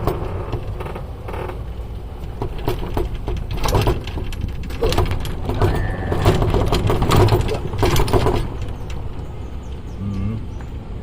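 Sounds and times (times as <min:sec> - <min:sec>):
cart rattling and knocking: 0:00.0 - 0:09.9
golf cart driving: 0:00.0 - 0:11.0.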